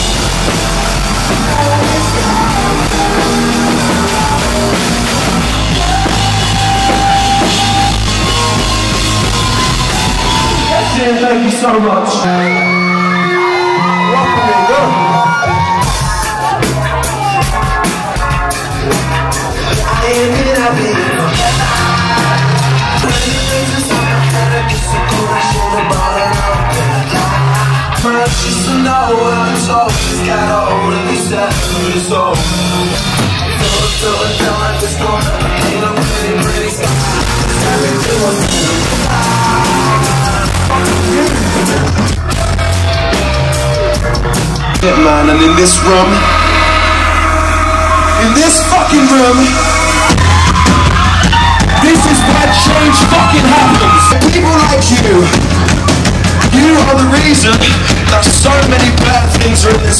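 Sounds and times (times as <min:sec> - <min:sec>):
drum kit beat: 0:00.0 - 0:11.4, 0:13.6 - 0:59.9
rock band playing live: 0:00.0 - 0:59.9
person singing: 0:00.9 - 0:11.2, 0:14.8 - 0:59.9.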